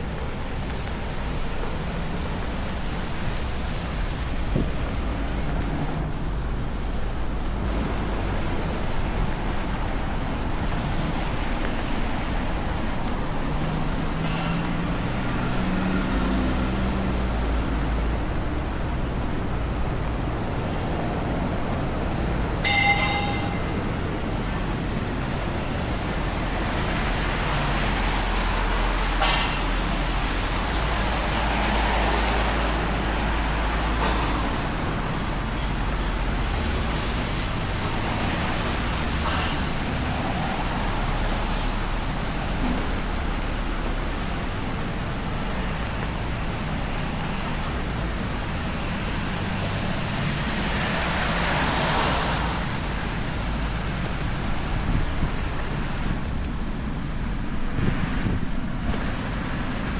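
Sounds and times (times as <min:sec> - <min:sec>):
traffic on wet streets: 0:00.0 - 0:59.9.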